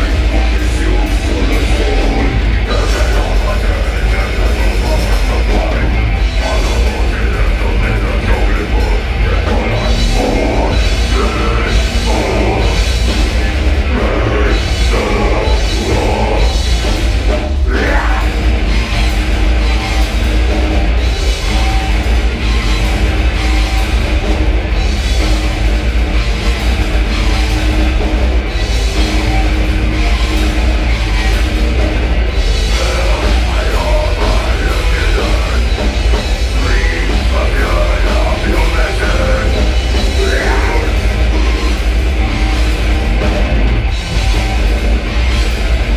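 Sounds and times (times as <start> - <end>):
heavy metal band playing live: 0.0 - 45.9.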